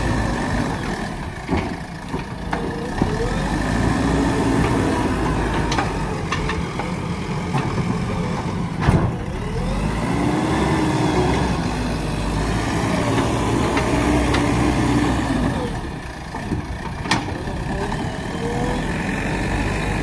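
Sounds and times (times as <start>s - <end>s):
backhoe diesel engine working: 0.0s - 20.0s.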